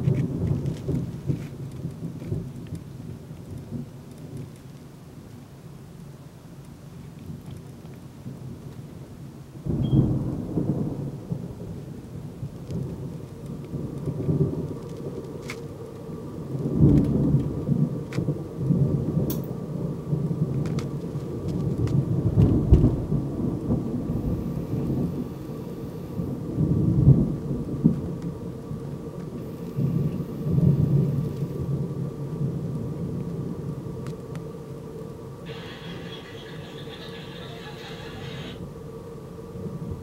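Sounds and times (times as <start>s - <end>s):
thunder rumbling: 0.0s - 4.0s, 9.6s - 40.0s
rain falling: 0.0s - 40.0s.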